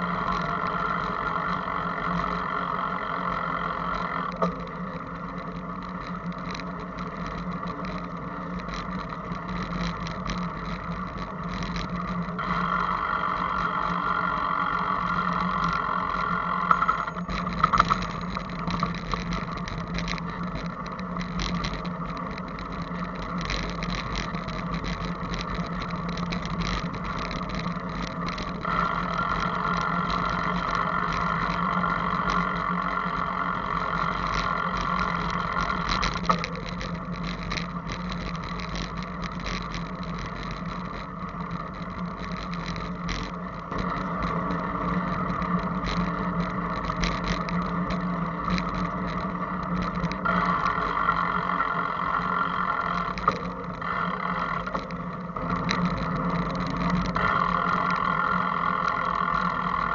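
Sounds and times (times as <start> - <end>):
bicycle tyre noise: 0.0 - 59.9
low hum: 0.0 - 59.9.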